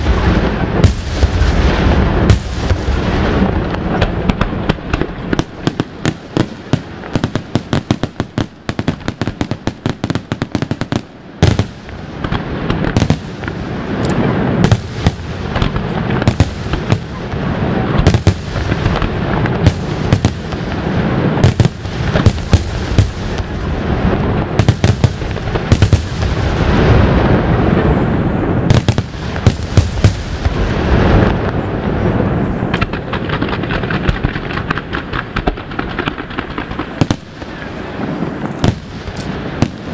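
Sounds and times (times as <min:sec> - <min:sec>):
firework shell bursts and booms: 0:00.0 - 0:31.6, 0:32.2 - 0:39.9
fireworks crackling: 0:00.0 - 0:39.9.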